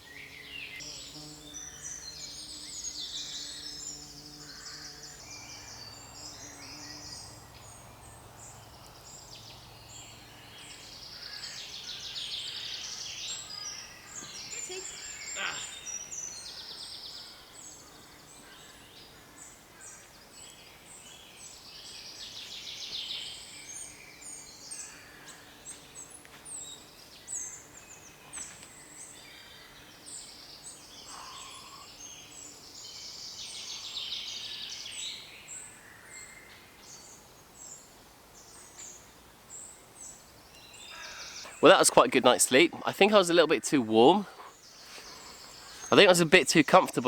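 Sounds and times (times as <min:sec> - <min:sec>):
songbirds chirping and trilling: 0:00.0 - 0:47.0.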